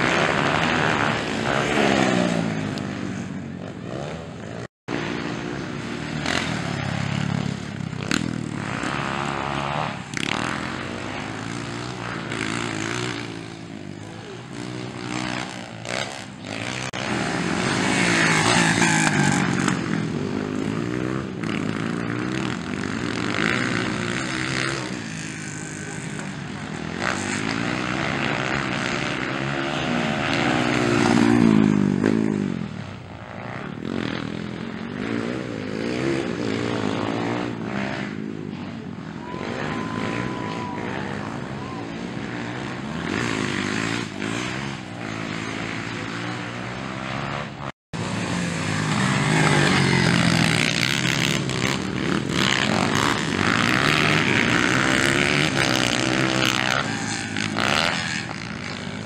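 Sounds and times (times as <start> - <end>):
motocross bikes revving: 0.0 - 59.0.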